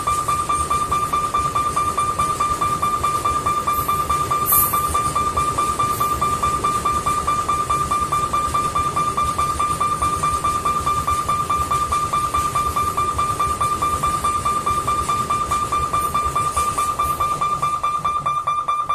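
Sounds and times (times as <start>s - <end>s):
level-crossing warning bell: 0.0s - 18.9s.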